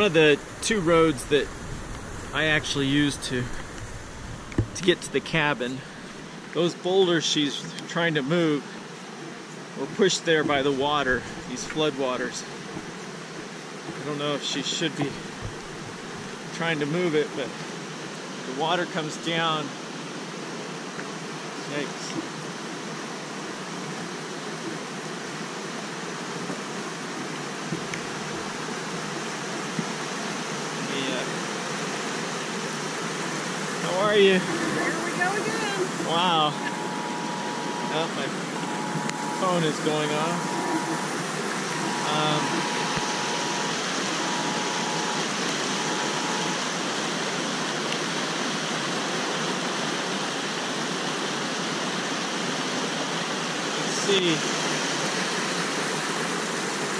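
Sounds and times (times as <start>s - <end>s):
flood water rushing across road: 0.0s - 56.9s.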